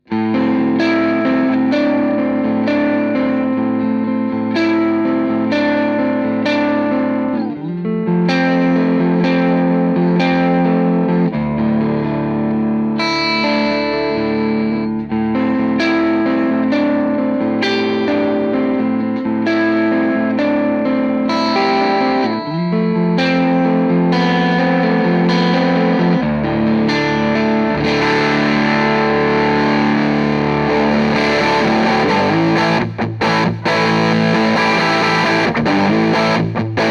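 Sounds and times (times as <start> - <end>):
distorted electric guitar chords: 0.0 - 36.9.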